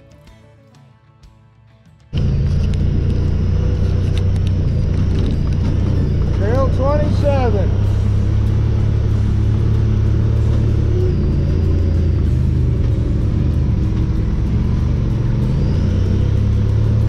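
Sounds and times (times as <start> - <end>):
vehicle engine running: 2.2 - 17.0.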